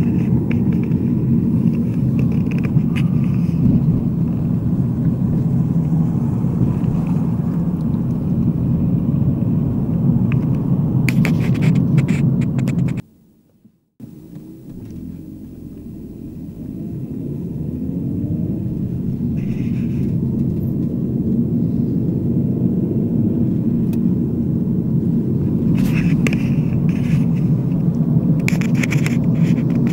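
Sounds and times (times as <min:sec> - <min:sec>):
vehicle low rumble: 0:00.0 - 0:29.9.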